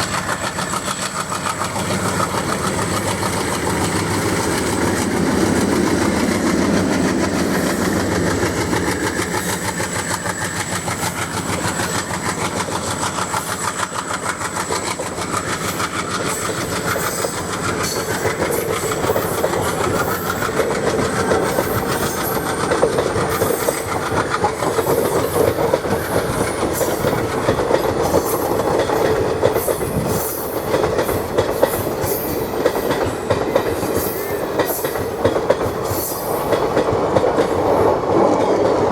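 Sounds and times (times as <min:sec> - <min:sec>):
diesel locomotive rumble: 0:00.0 - 0:33.8
train wheels clicking over rail joints: 0:00.0 - 0:38.9.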